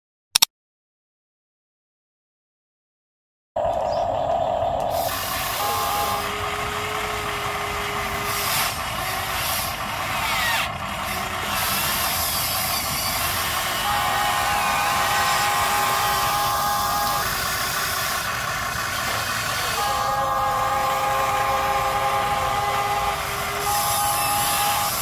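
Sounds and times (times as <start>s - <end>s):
electric motors whining: 3.6s - 25.0s.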